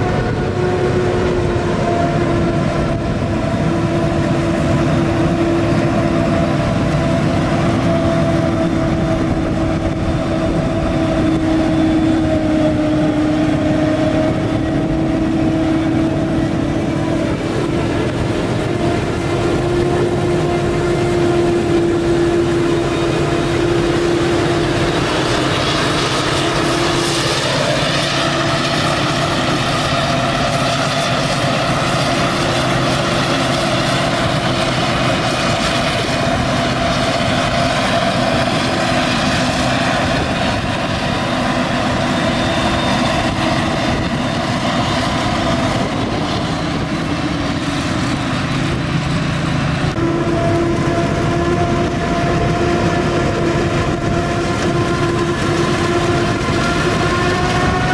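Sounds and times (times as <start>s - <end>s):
forage harvester humming drone: 0.0s - 57.9s
tractor running: 0.0s - 57.9s.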